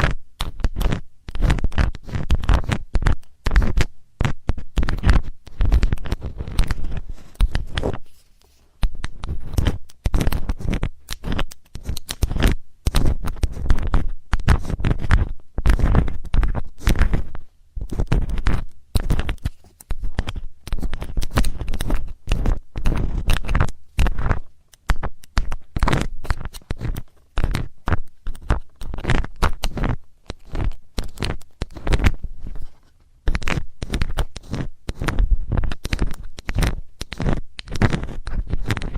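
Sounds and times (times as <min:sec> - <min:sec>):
metal tool scraping microphone: 0:05.0 - 0:38.9.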